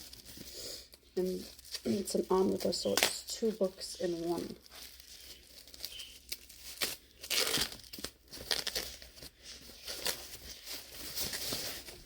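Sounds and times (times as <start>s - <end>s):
wrapping crinkling and tearing: 0.0s - 12.0s.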